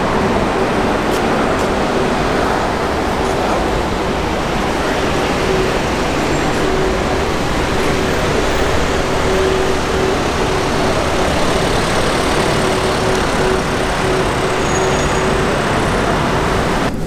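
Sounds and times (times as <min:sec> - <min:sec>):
street traffic roar: 0:00.0 - 0:17.0.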